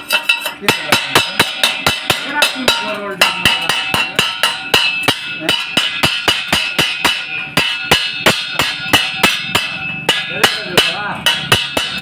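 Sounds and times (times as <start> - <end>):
hammer striking steel pipe: 0.0 - 12.0.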